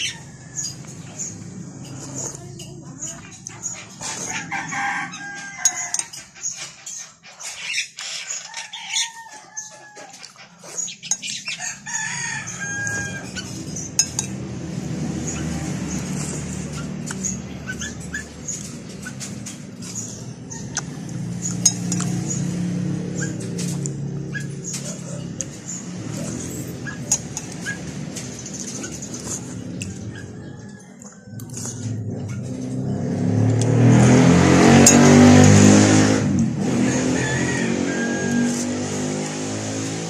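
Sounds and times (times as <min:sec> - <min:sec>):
roosters crowing: 0:00.0 - 0:02.3, 0:03.4 - 0:40.0.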